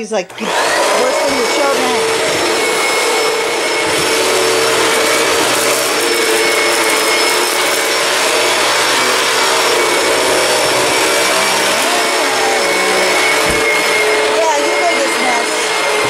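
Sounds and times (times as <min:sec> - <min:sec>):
upright vacuum cleaner running: 0:00.0 - 0:16.0.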